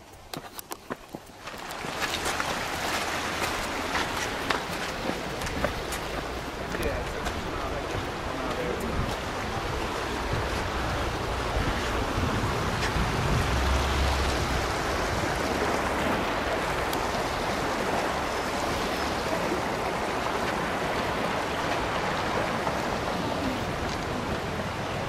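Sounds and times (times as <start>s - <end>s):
stream water rushing over rocks: 0.0s - 25.0s.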